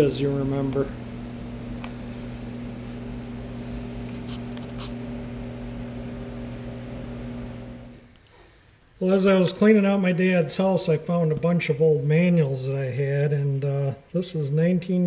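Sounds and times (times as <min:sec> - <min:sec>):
electric fan hum: 0:00.0 - 0:15.0.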